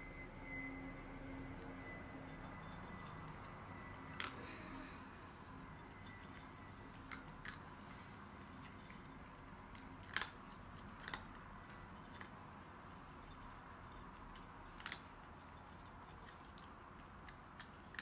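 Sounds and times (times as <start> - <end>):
cat crunching dry kibble: 2.4 - 18.0.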